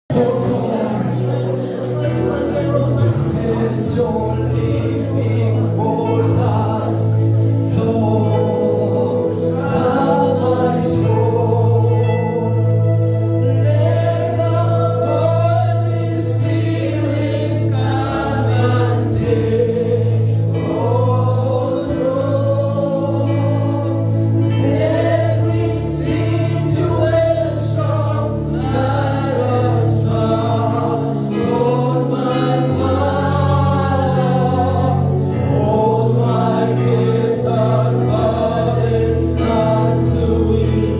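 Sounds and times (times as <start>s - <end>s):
bass accompaniment: 0.0s - 40.9s
choir singing gospel: 0.1s - 40.9s.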